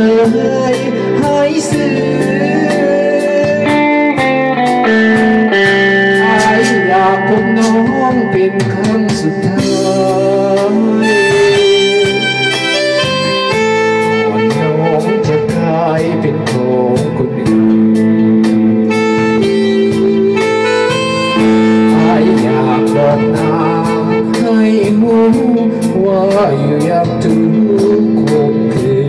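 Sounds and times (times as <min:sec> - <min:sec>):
electric guitar: 0:00.0 - 0:29.0
keyboard long held notes: 0:00.0 - 0:29.0
man singing into microphone: 0:00.0 - 0:29.0
steady drum beat: 0:00.0 - 0:29.0.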